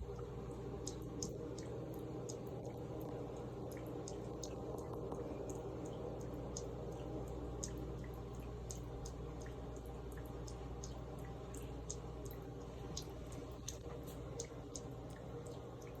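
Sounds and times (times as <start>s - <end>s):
running tap water trickling: 0.0s - 16.0s.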